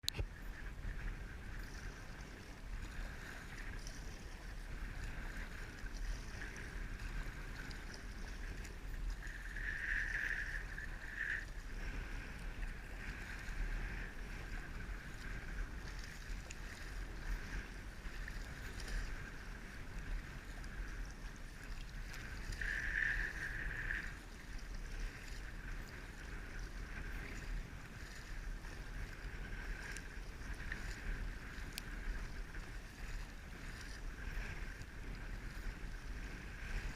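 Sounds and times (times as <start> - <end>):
water sloshing around kayak: 0.0 - 36.9
wind rumble on microphone: 0.0 - 36.9.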